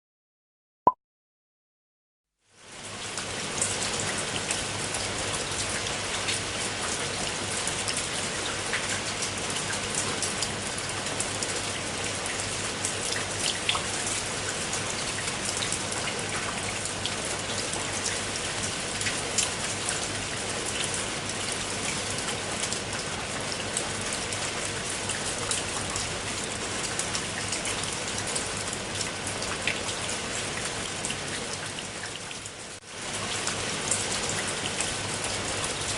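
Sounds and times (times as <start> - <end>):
water feature splashing: 2.7 - 35.9.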